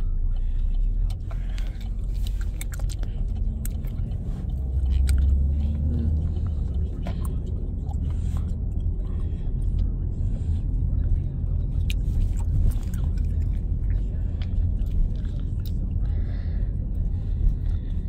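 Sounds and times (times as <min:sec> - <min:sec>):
car interior rumble: 0:00.0 - 0:18.0
person chewing noodles: 0:00.0 - 0:18.0.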